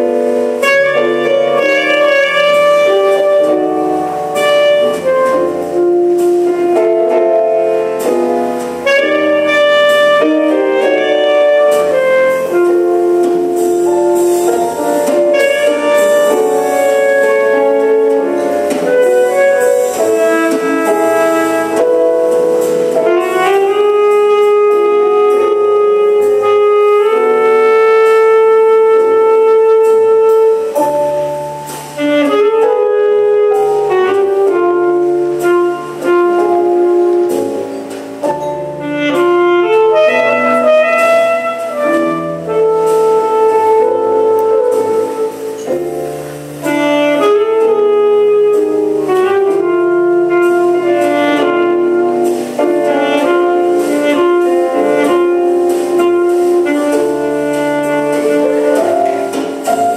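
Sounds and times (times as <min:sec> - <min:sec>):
piano: 0:00.0 - 0:59.9
saxophone jazz melody: 0:00.0 - 0:59.9.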